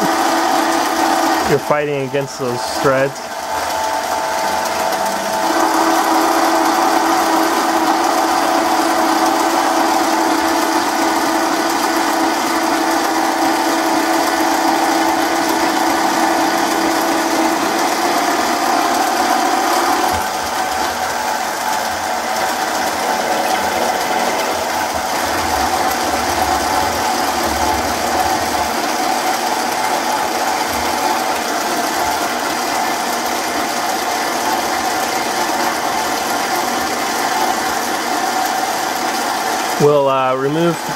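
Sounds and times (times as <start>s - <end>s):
lathe cutting threads: 0.0s - 40.9s
steady whine: 0.0s - 40.9s.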